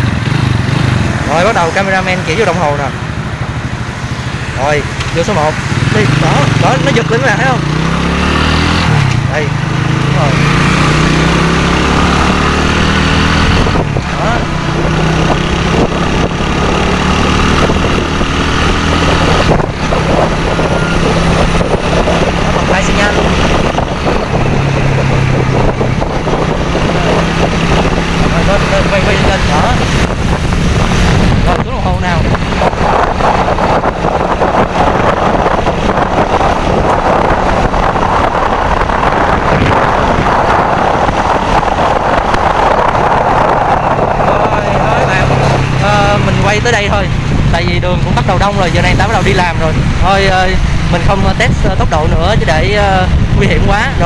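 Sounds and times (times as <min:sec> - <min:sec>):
motorcycle engine running hard: 0:00.0 - 0:54.0
road noise: 0:00.0 - 0:54.0
wind noise: 0:00.0 - 0:54.0.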